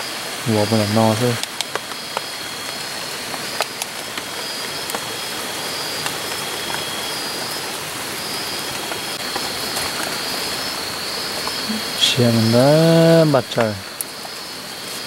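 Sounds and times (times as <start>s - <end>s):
night insects trilling: 0.0s - 15.0s
steady hiss: 0.0s - 15.0s.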